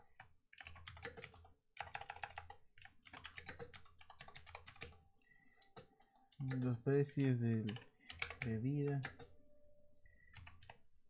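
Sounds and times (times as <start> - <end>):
fast keyboard typing: 0.0 - 5.0, 5.6 - 9.4, 10.3 - 10.9.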